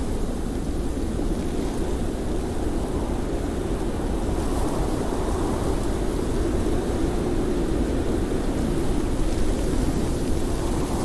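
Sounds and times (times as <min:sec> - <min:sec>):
blizzard wind blowing: 0:00.0 - 0:11.0.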